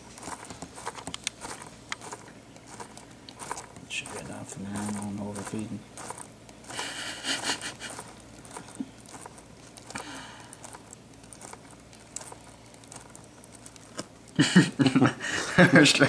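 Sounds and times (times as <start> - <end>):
rustling and crinkling: 0.0 - 14.9
low background: 0.0 - 16.0.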